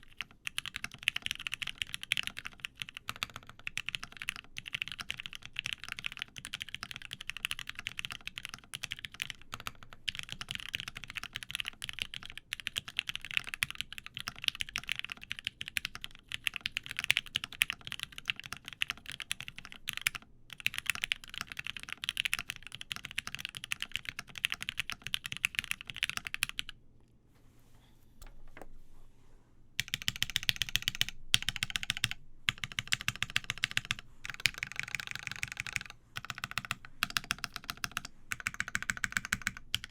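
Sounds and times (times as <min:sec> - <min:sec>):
mechanical keyboard typing: 0:00.0 - 0:26.7, 0:29.8 - 0:39.9.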